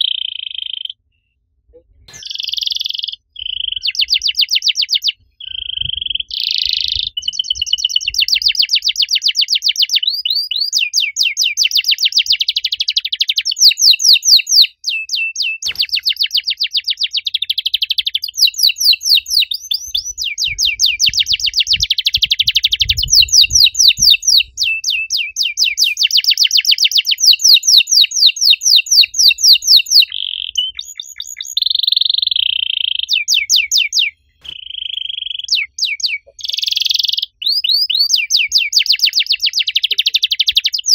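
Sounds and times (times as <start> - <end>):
canary singing trills: 0.0 - 1.0, 2.1 - 40.9.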